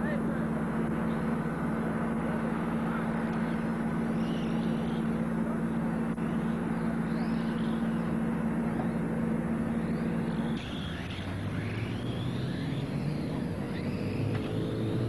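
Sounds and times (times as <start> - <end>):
radio-control cars whining: 0.0 - 15.0.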